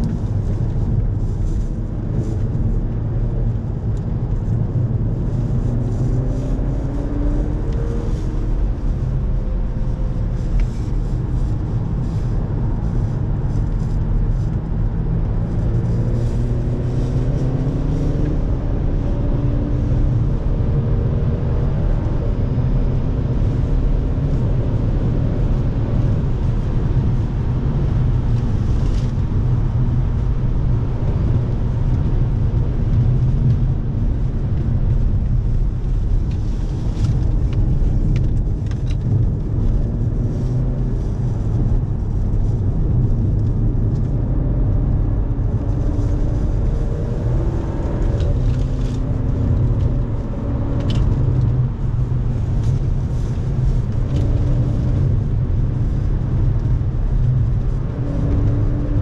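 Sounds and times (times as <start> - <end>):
car engine accelerating: 0.0 - 59.0
road noise low rumble: 0.0 - 59.0.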